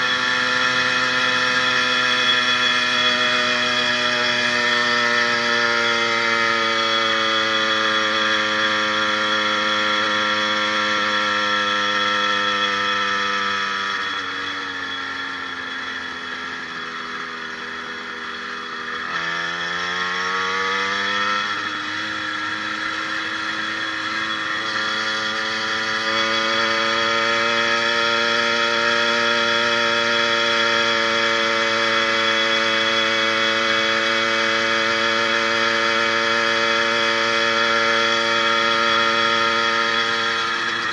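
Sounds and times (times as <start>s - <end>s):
two-stroke engine running: 0.0s - 40.9s.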